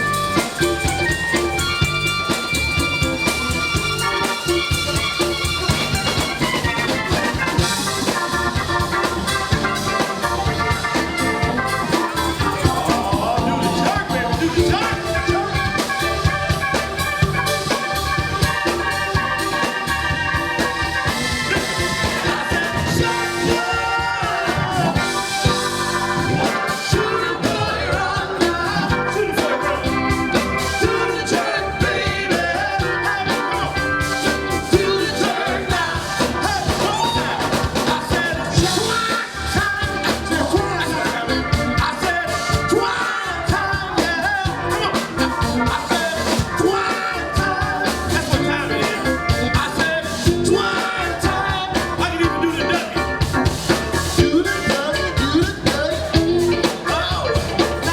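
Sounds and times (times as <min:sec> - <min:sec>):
live soul band playing: 0:00.0 - 0:57.9
person singing: 0:06.4 - 0:16.8, 0:17.4 - 0:57.9.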